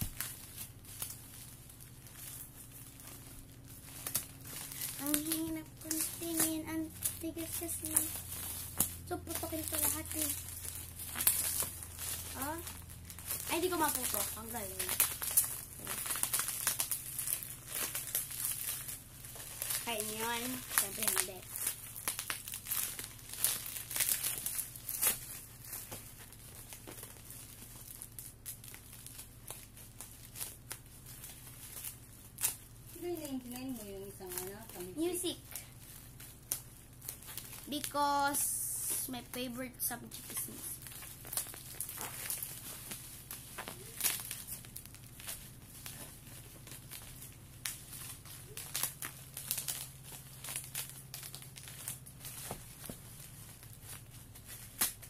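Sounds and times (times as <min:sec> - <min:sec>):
plastic packaging crinkling: 0:00.0 - 0:55.0
small clicks and crackles: 0:00.0 - 0:55.0.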